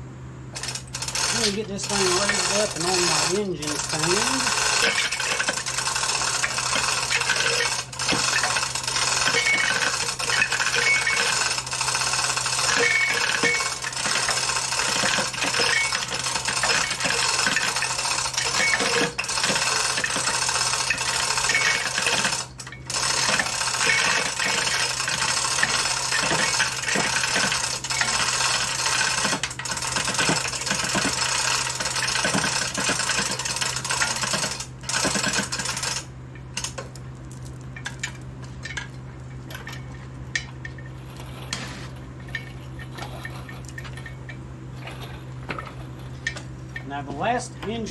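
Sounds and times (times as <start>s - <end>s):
steady low hum: 0.0s - 47.9s
lifting gear rattling and clicking: 0.5s - 47.9s.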